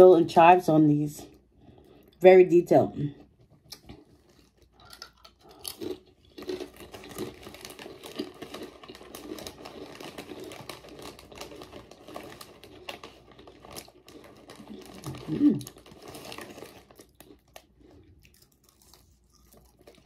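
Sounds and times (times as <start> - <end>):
person crunching potato chip: 3.5 - 20.0.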